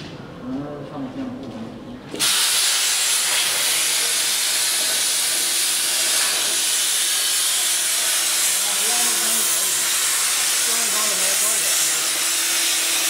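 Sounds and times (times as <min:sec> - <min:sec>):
plasma torch hissing: 0:02.1 - 0:13.0.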